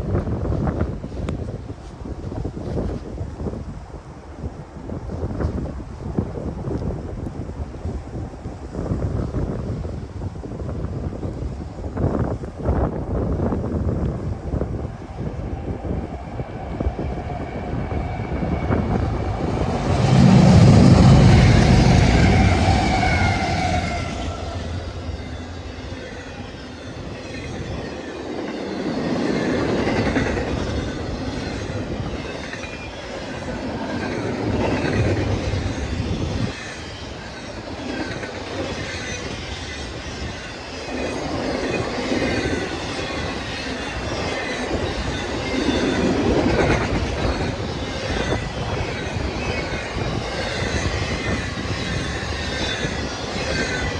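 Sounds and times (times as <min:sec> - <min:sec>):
train rumbling past: 0:00.0 - 0:53.9
train wheels on rails: 0:00.0 - 0:53.9.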